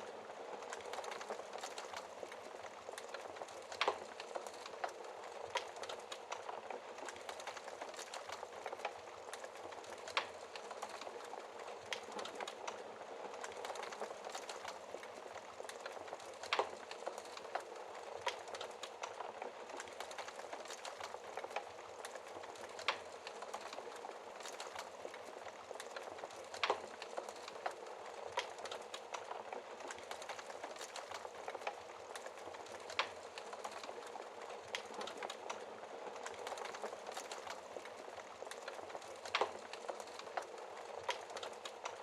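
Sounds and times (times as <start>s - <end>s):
fire crackling in a fireplace: 0.0s - 42.0s.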